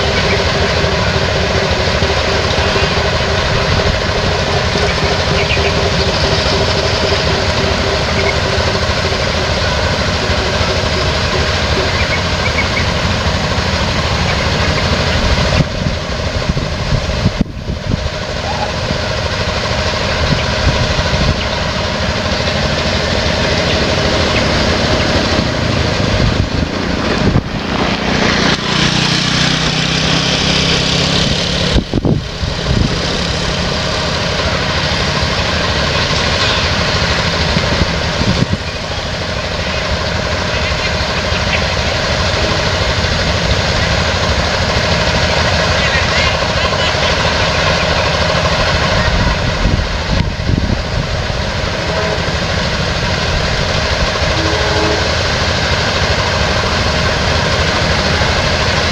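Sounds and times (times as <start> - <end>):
vehicle engines running: 0.0 - 58.9.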